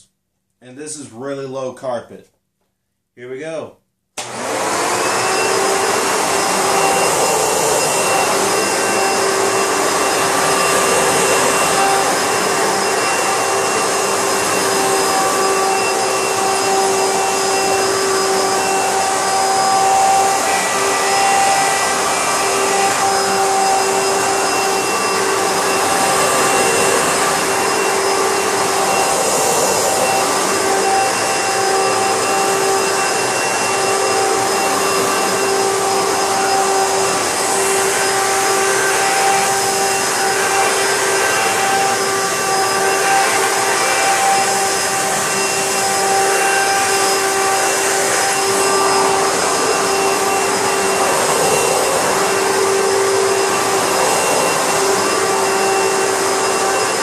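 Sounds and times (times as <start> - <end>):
vacuum cleaner running: 4.2 - 57.0.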